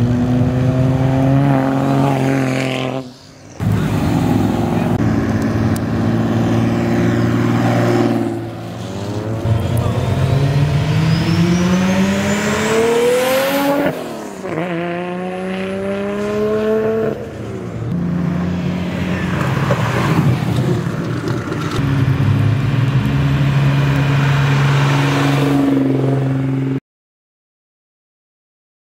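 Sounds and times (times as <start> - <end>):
car engines accelerating past: 0.0 - 26.8.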